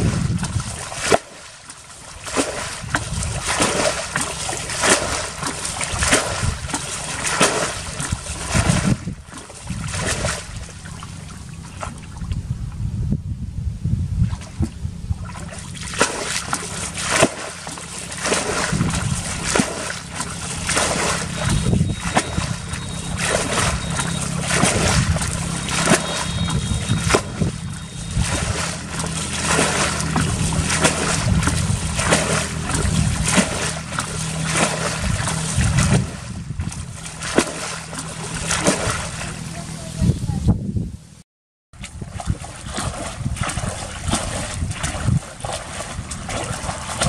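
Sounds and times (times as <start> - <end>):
bucket splashing and sloshing water: 0.0 - 12.4, 14.2 - 40.1, 41.8 - 47.0.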